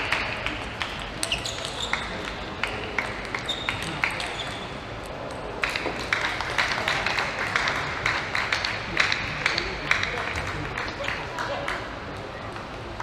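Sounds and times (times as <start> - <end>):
arena background noise: 0.0 - 13.0.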